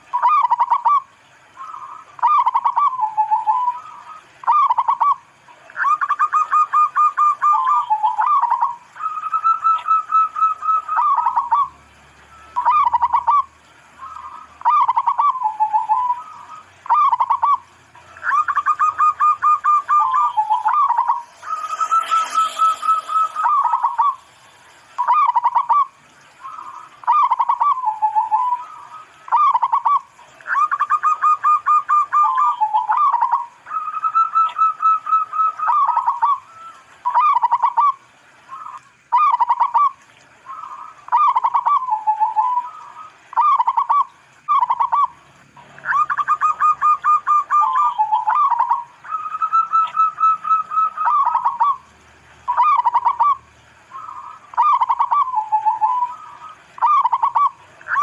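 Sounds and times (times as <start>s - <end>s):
dove cooing: 0.0s - 5.2s, 5.8s - 11.7s, 12.3s - 24.3s, 25.0s - 51.9s, 52.5s - 58.0s.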